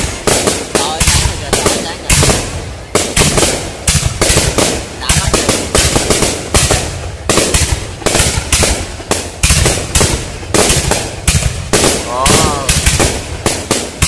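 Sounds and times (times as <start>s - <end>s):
firework bangs and crackles: 0.0s - 14.0s.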